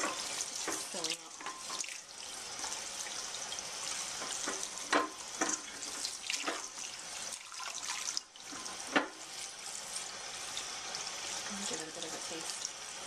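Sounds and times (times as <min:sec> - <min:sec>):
hands rinsing vegetables: 0:00.0 - 0:13.0
tap water running: 0:00.0 - 0:13.0.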